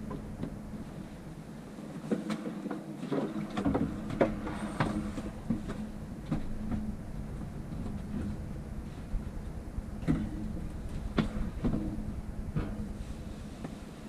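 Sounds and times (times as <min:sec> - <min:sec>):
steady low hum: 0:00.0 - 0:02.2, 0:03.1 - 0:14.0.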